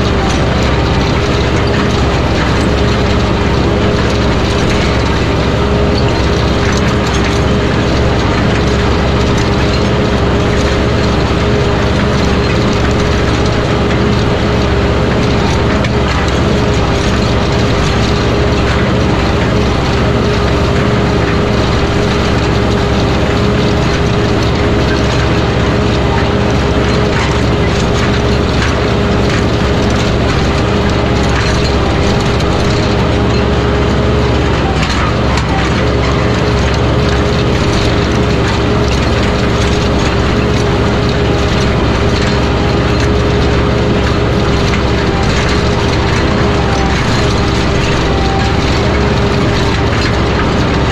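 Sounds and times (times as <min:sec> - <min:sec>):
plow frame clattering: 0:00.0 - 0:50.9
tractor engine under heavy load: 0:00.0 - 0:50.9.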